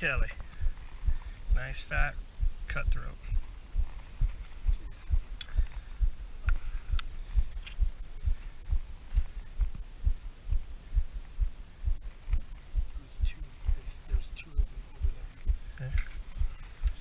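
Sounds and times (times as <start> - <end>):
dull low thumps: 0.0 - 17.0.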